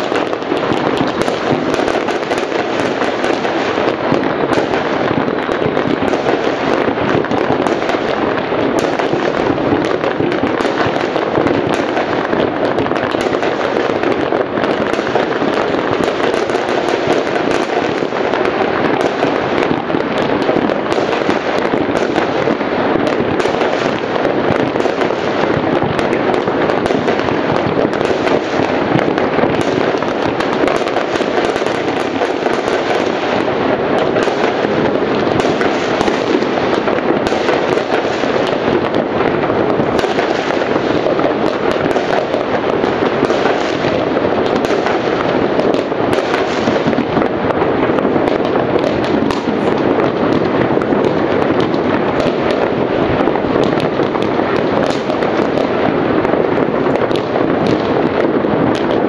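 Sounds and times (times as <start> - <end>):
fireworks crackling: 0.0 - 59.0.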